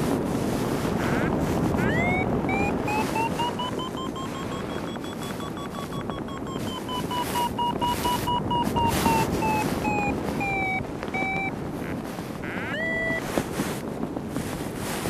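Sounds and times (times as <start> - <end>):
wind rush on microphone: 0.0 - 15.0
variometer beeping rapidly: 1.0 - 13.3.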